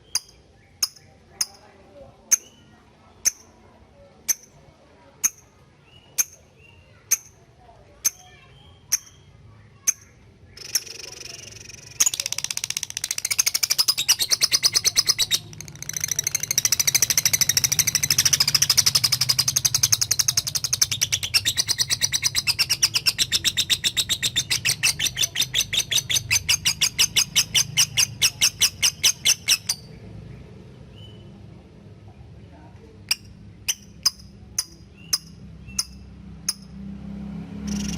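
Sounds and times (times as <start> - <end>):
lovebird chattering chirps: 0.0 - 1.6, 2.3 - 3.6, 5.2 - 7.4, 8.0 - 30.0, 33.0 - 36.7, 37.6 - 37.9.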